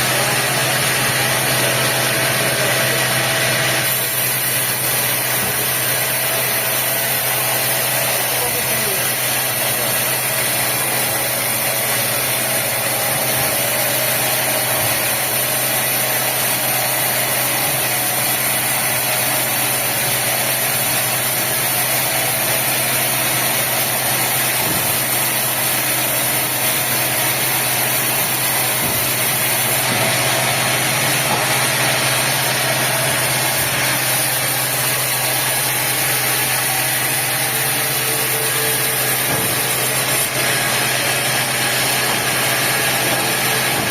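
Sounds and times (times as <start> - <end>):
sawmill machinery drone: 0.0 - 43.9.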